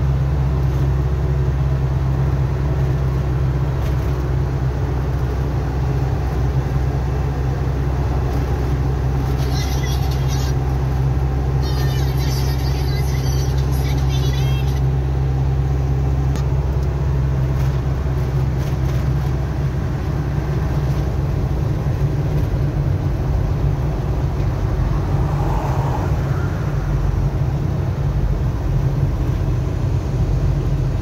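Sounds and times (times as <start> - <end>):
vehicle engine and tyre drone: 0.0 - 31.0.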